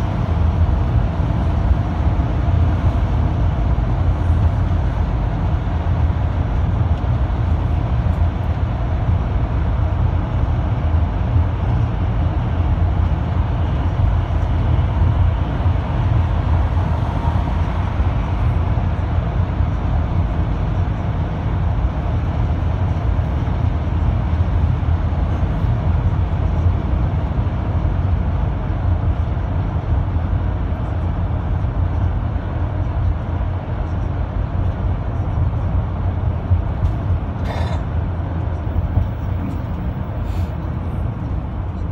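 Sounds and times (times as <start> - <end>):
minibus cabin rumble: 0.0 - 41.9.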